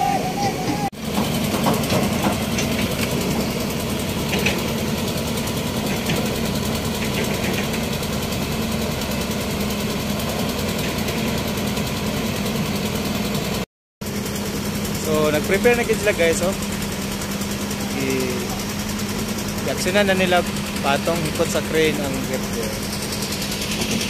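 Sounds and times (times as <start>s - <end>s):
crane engine humming: 0.0s - 24.0s.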